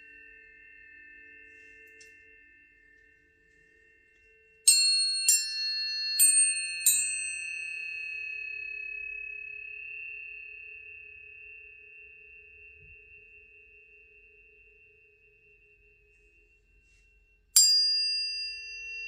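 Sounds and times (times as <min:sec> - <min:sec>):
tuning fork clang and ringing tone: 0:00.0 - 0:19.0.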